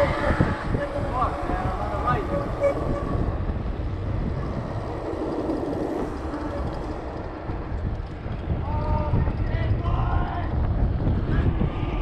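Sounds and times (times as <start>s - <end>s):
bike tyres rumbling on asphalt: 0.0s - 12.0s
wind rushing over microphone: 0.0s - 12.0s.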